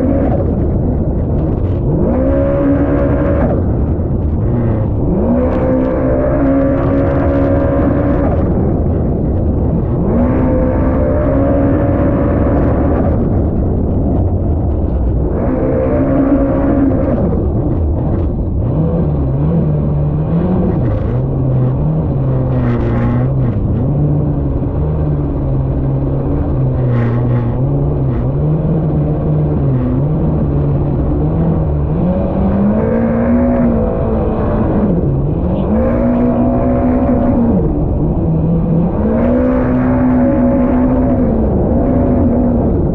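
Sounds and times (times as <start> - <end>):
watercraft engine revving: 0.0 - 42.9.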